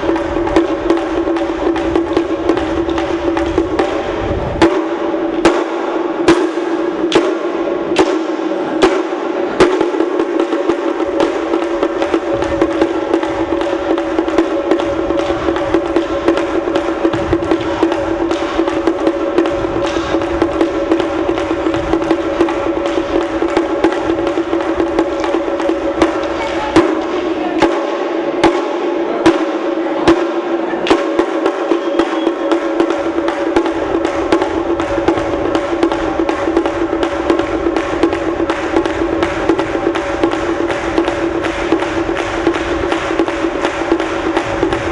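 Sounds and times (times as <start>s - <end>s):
frame drum: 0.0s - 44.9s.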